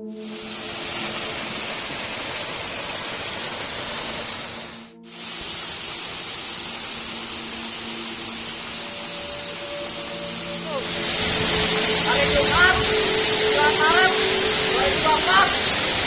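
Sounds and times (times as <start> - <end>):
soft background music: 0.0 - 2.2, 4.6 - 16.0
waterfall rushing water: 0.1 - 16.0.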